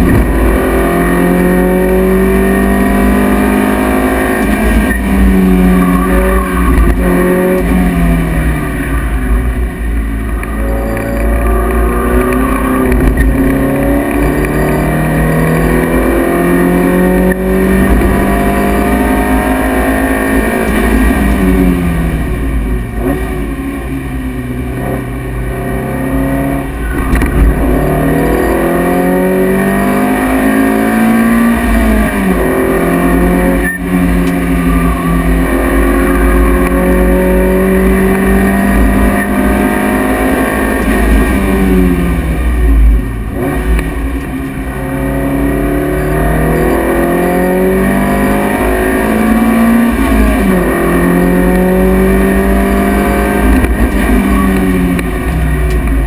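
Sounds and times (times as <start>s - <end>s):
car engine revving through gears: 0.0s - 56.0s
road and wind rumble: 0.0s - 56.0s.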